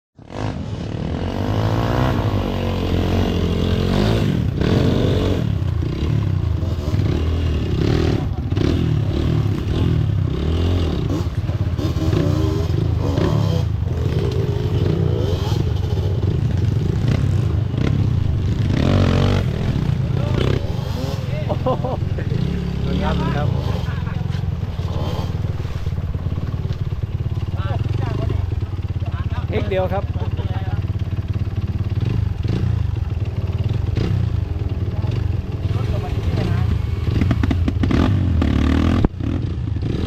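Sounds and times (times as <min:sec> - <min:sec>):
dirt bike engine revving: 0:00.2 - 0:40.0.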